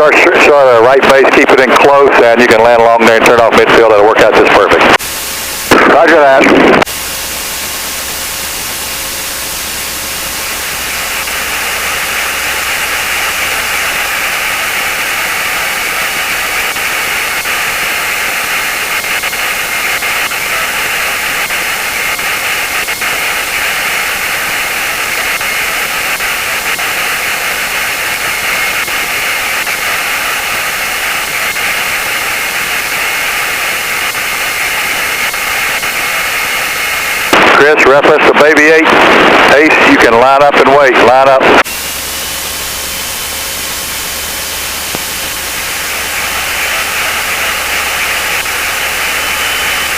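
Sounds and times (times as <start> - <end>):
aircraft cockpit engine noise: 0.0 - 49.9.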